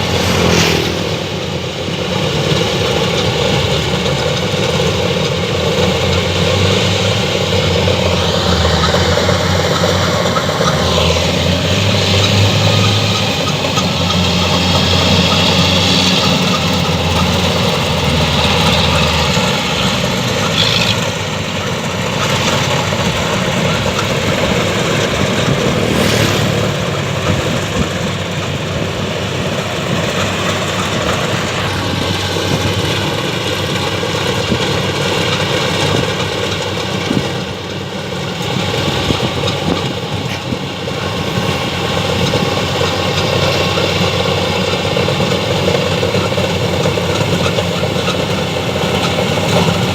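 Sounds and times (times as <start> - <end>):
combine harvester engine droning: 0.0 - 49.9.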